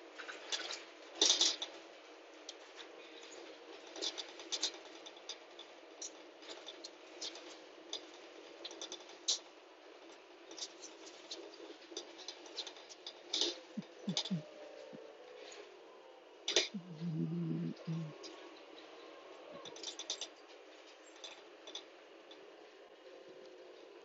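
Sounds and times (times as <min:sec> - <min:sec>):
light clicks and rattles: 0:00.2 - 0:15.7, 0:19.6 - 0:24.0.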